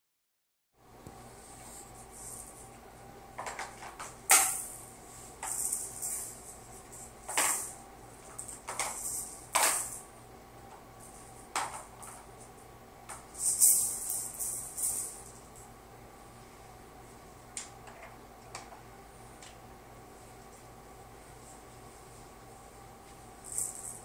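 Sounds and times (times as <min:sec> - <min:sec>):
faint steady hum: 0:00.8 - 0:24.0.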